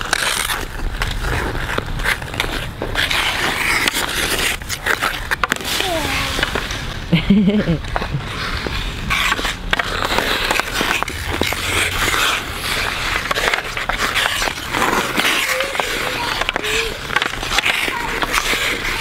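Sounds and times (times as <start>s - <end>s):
hockey sticks tapping puck: 0.0s - 19.0s
ice skate blades scraping: 0.0s - 19.0s.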